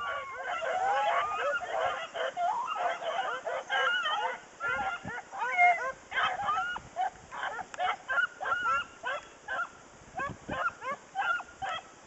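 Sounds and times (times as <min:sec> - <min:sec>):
hounds baying: 0:00.0 - 0:11.9.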